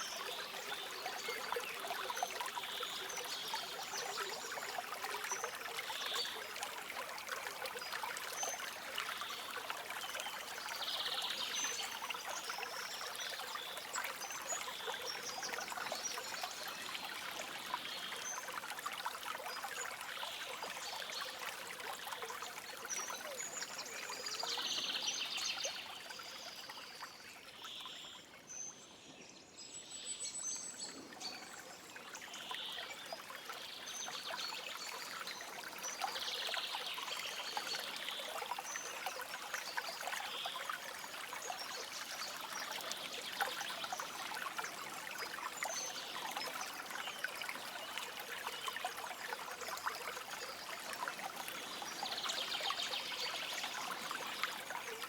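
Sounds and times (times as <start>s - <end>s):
stream trickling over stones: 0.0s - 29.0s, 29.6s - 55.0s.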